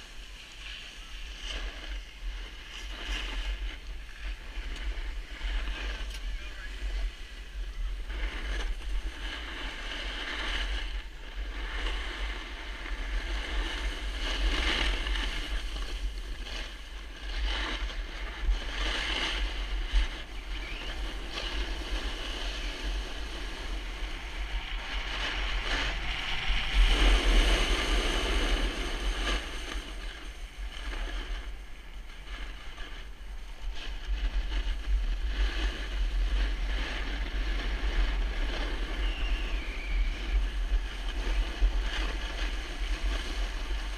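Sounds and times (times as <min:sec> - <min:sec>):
skis scraping packed snow: 0:00.0 - 0:43.9
wind buffeting microphone: 0:00.0 - 0:43.9.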